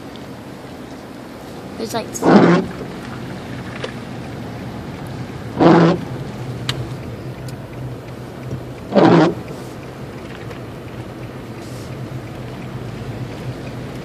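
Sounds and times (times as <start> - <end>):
car engine and road noise hum: 0.0 - 14.0.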